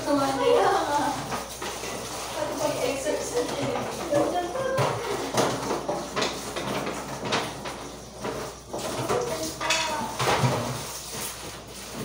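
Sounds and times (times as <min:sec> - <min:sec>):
dishes and utensils clinking: 0:00.0 - 0:12.0.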